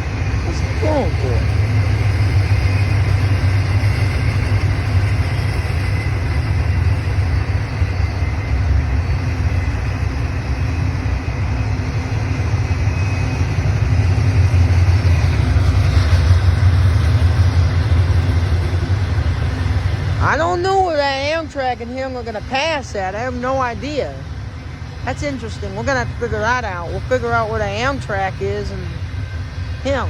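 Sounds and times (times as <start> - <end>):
freight train rumbling past: 0.0 - 30.0.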